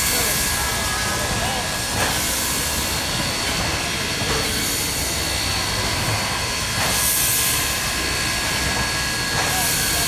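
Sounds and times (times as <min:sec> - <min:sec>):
steam hissing: 0:00.0 - 0:10.0.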